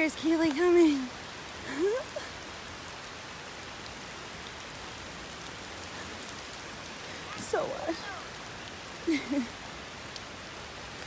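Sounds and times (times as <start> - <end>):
heavy rain on foliage and pavement: 0.0 - 11.0.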